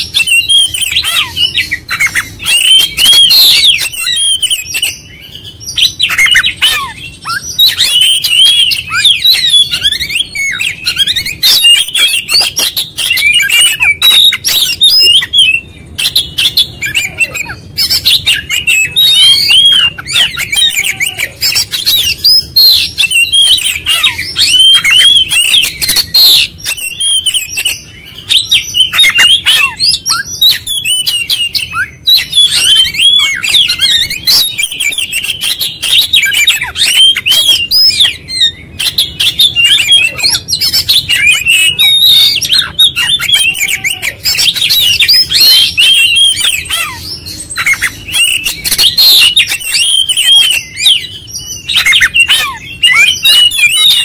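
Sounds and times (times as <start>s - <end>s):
bird singing whistles and trills: 0.0s - 54.0s.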